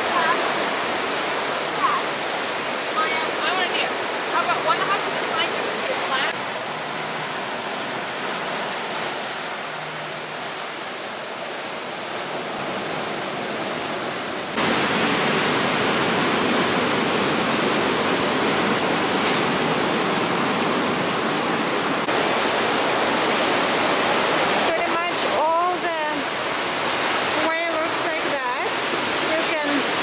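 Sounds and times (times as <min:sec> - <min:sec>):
surf washing over rocky shore: 0:00.0 - 0:30.0.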